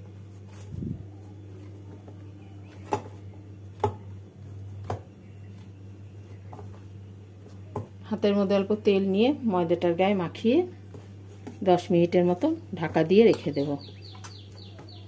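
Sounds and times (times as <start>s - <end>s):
dough kneaded by hand: 0.0s - 15.0s
low steady hum: 0.0s - 15.0s.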